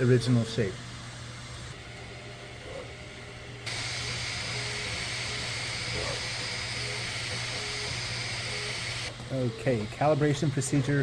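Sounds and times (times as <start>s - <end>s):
printer hum and fan hiss: 0.0s - 11.0s.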